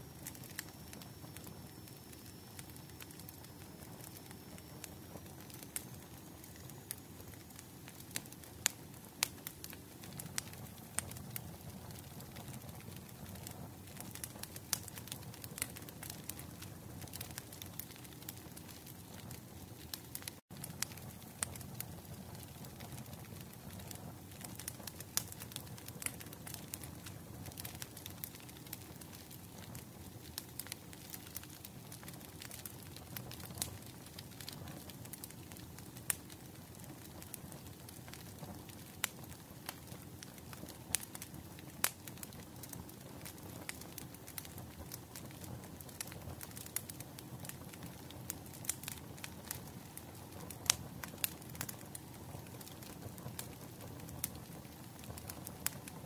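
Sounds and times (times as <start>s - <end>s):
bonfire crackling: 0.0s - 56.0s.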